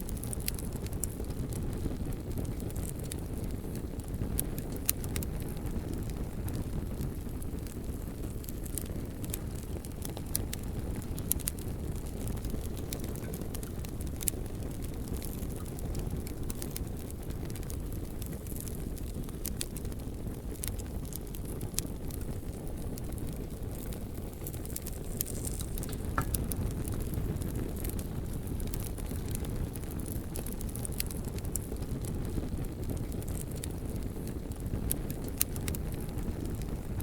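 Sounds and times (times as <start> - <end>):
bonfire flames rumbling: 0.0 - 37.0
logs crackling and popping: 0.0 - 37.0.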